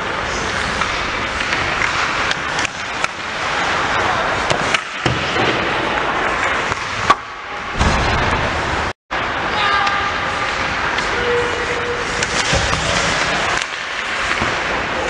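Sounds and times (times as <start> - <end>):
hockey sticks and puck clacking: 0.0 - 7.4, 9.5 - 15.0.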